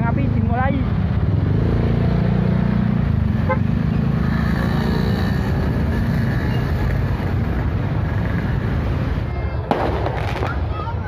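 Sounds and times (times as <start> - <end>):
motorcycle and car engines: 0.0 - 11.0.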